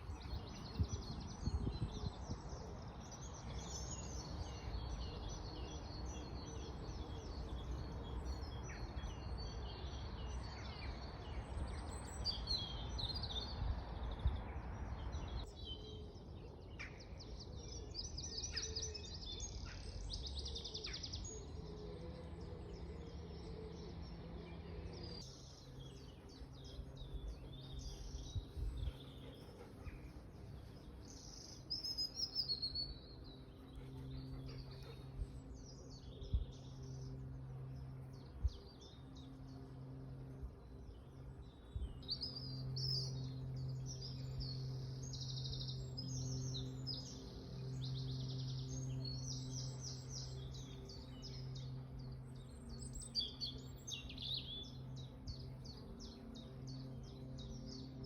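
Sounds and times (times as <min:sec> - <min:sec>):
songbirds singing and chirping: 0:00.0 - 0:58.0
steady low background noise: 0:00.0 - 0:58.0.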